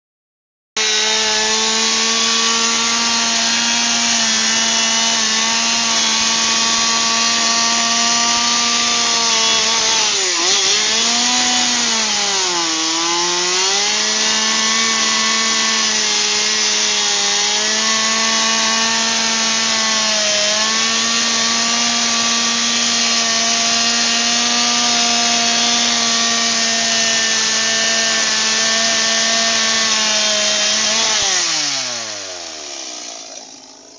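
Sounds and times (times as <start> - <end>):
chainsaw cutting wood: 0.8 - 33.9.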